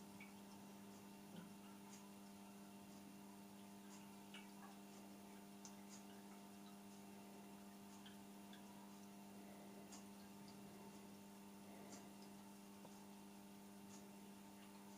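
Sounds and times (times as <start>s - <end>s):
faint electrical hum: 0.0s - 14.9s.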